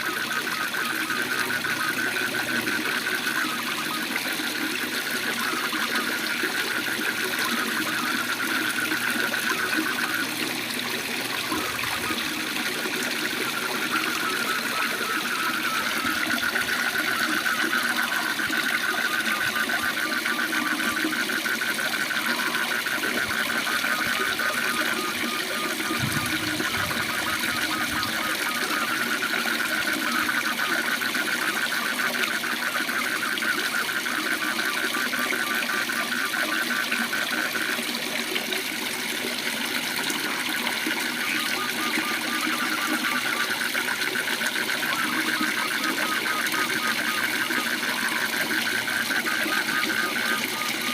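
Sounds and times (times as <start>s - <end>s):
frogs trilling: 0.0s - 50.9s.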